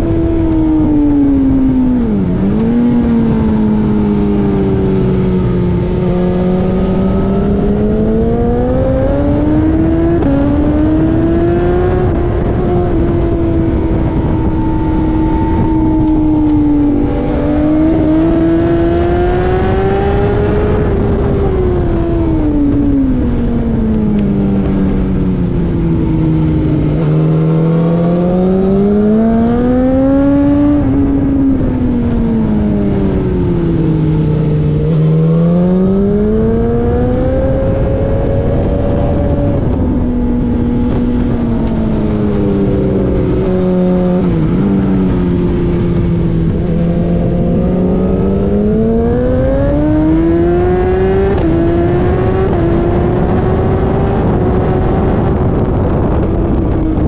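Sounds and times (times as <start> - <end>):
tyre and wind noise: 0.0 - 57.0
vehicle engine revving: 0.0 - 57.0.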